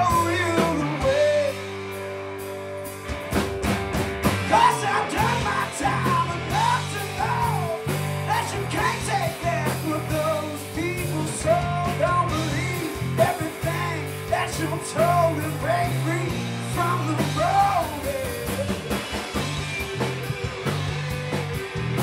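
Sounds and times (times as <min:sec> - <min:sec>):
rock band playing live: 0:00.0 - 0:22.0
sliding bending guitar lead: 0:00.0 - 0:22.0.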